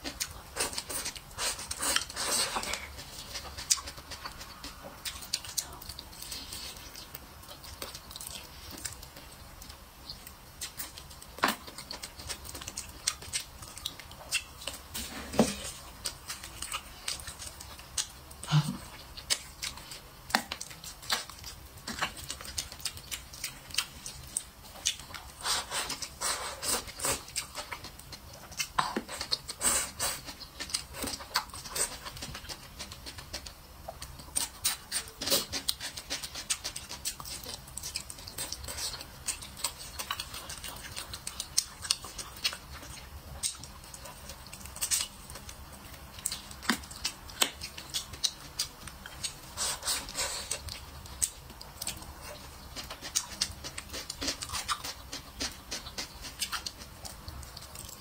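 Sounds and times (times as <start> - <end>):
wet chewing and lip smacks: 0.0 - 14.9, 15.5 - 58.0.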